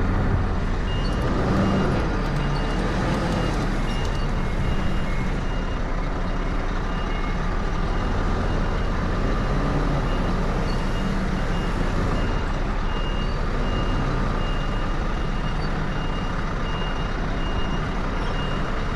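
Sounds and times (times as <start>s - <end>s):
diesel engine running: 0.0s - 18.9s
truck reversing alarm beeping: 0.1s - 18.9s.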